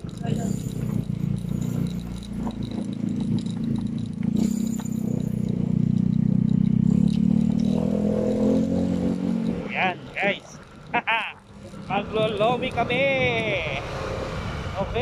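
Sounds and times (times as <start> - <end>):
rattle: 0.0 - 13.4
vehicle engine running: 0.0 - 15.0.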